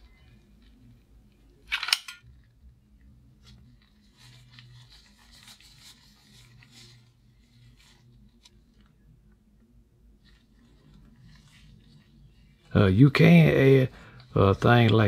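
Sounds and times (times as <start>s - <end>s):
gloved fingertips rubbing and squishing: 2.3s - 15.0s.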